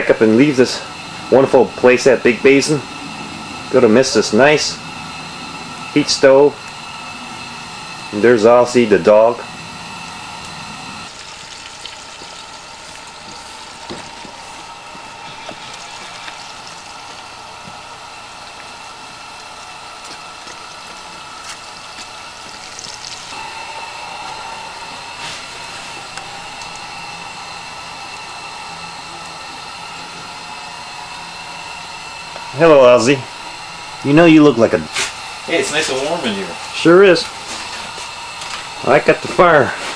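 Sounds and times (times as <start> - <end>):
faint hum tones: 0.0 - 39.9.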